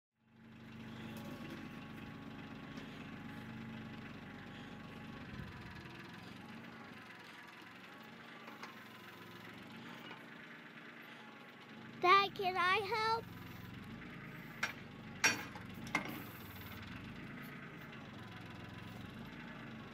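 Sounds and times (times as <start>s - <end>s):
tractor diesel engine idling: 0.3s - 19.9s.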